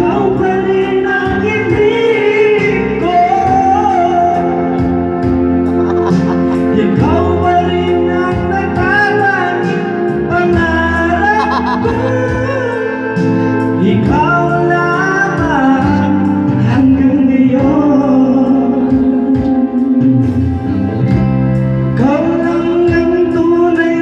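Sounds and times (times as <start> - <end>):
karaoke backing track: 0.0 - 24.0
person singing into microphone: 0.0 - 24.0.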